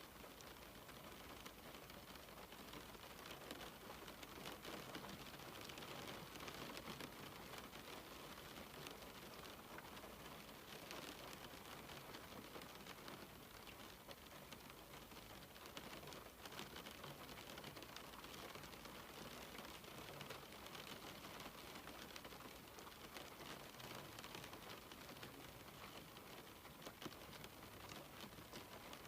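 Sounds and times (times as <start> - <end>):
rain on a window: 0.0 - 29.0.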